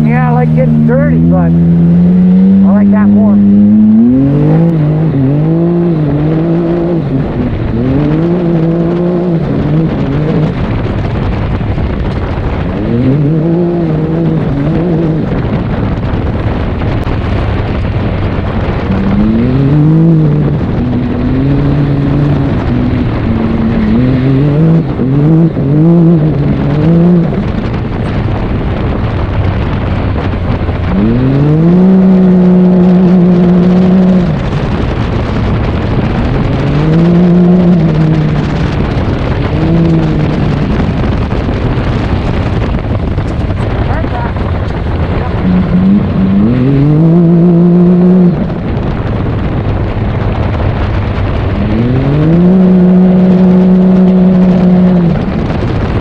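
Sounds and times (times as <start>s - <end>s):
turbocharged engine revving: 0.0s - 56.0s
tyre and wind noise: 0.0s - 56.0s.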